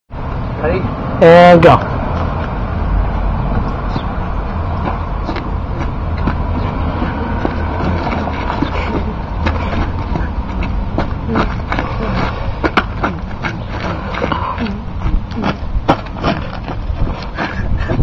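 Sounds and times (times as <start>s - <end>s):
low rumble of street traffic: 0.1s - 18.0s.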